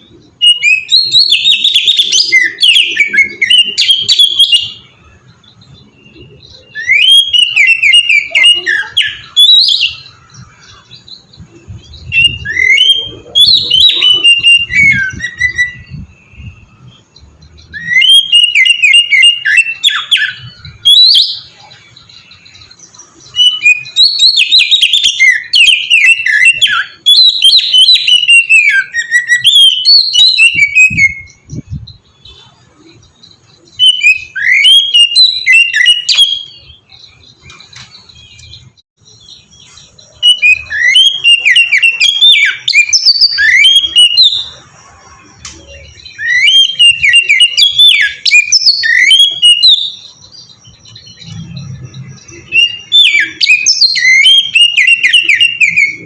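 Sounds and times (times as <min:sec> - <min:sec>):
bird singing whistled trilled phrases: 0:00.3 - 0:44.7, 0:45.6 - 0:56.0.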